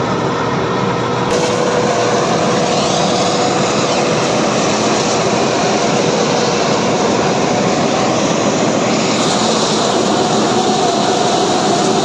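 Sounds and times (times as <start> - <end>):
combine harvester drone: 0.0 - 12.0.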